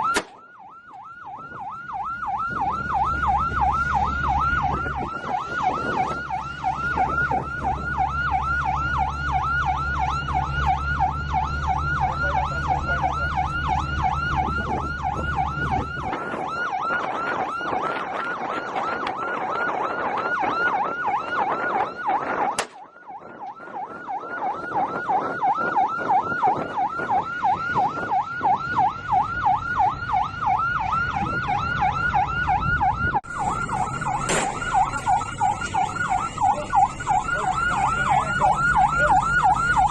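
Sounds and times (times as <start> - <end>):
low engine drone: 0.0 - 19.4, 26.9 - 39.9
siren yelping: 0.0 - 39.9.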